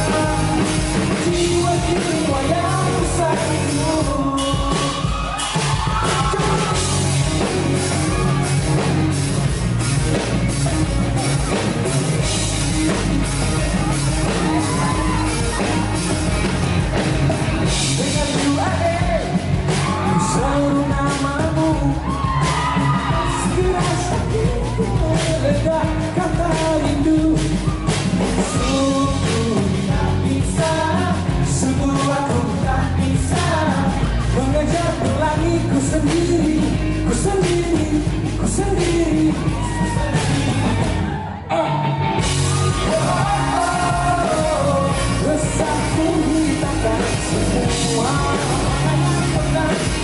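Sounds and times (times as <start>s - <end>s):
man singing lead vocals: 0.0s - 8.8s, 12.3s - 50.0s
bass guitar: 0.0s - 50.0s
drum kit: 0.0s - 50.0s
electric guitar: 0.0s - 50.0s.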